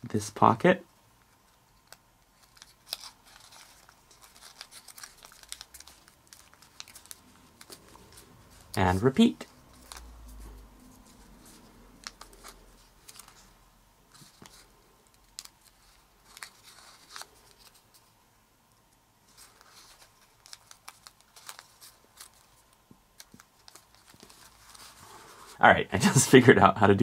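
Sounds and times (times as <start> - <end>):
paper crinkling while folded: 1.2 - 18.2, 19.2 - 25.6.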